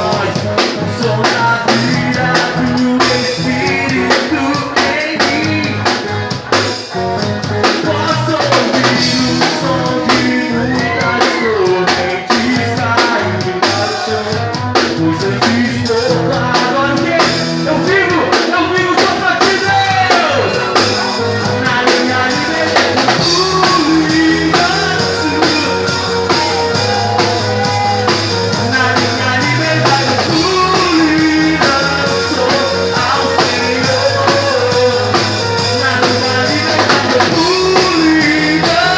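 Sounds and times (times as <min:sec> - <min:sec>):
melodic lead guitar bending: 0:00.0 - 0:38.9
rock band playing: 0:00.0 - 0:38.9.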